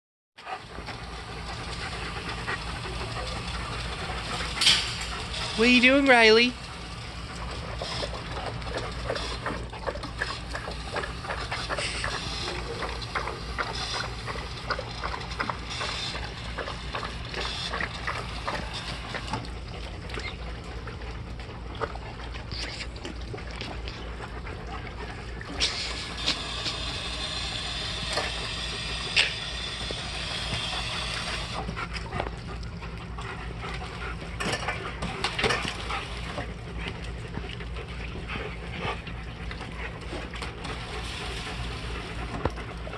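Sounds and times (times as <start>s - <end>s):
puppies lapping water from metal bowl: 0.4s - 42.9s.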